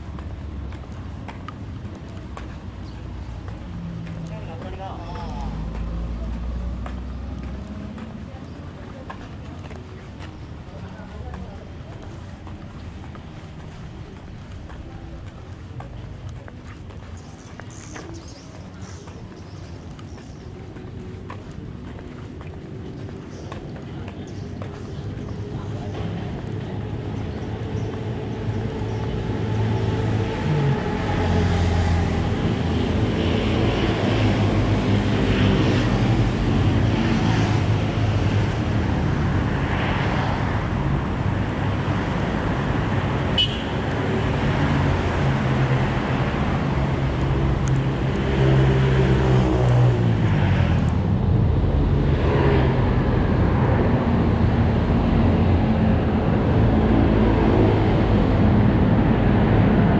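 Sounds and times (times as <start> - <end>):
vehicle engines running: 0.0 - 59.9.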